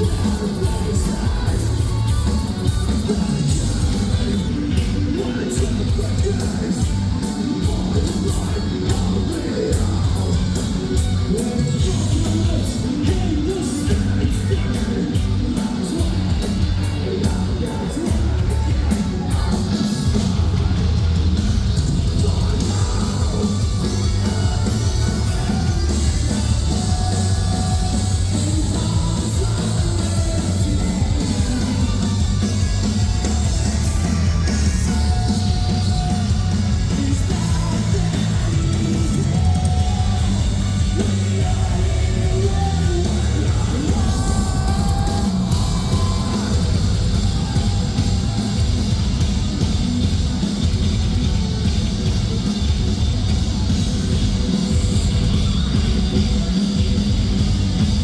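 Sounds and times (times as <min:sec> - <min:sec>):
person singing: 0:00.0 - 0:21.0, 0:22.0 - 0:49.0
bass guitar: 0:00.0 - 0:58.0
distorted electric guitars: 0:00.0 - 0:58.0
drums: 0:00.0 - 0:58.0.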